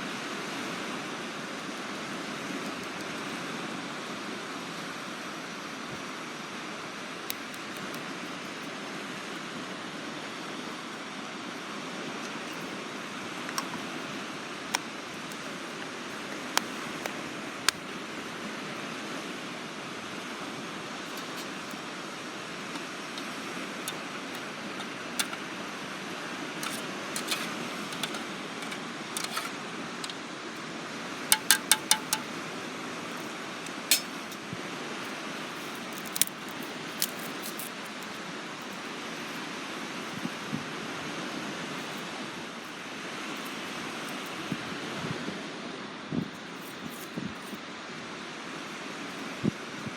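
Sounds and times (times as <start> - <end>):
sea surf: 0.0 - 49.9
wind: 0.0 - 49.9.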